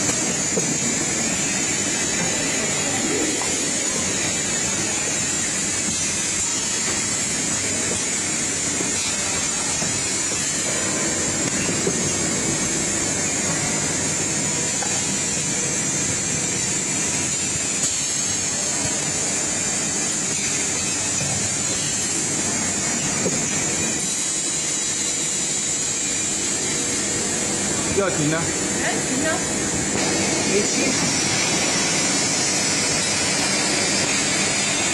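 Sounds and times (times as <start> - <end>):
stamping machine running: 0.0 - 34.9.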